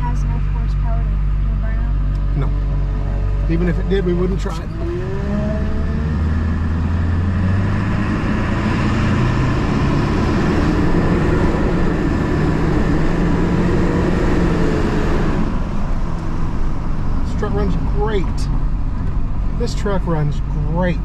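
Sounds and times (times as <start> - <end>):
diesel truck engine running: 0.0 - 21.0
road noise: 0.0 - 21.0.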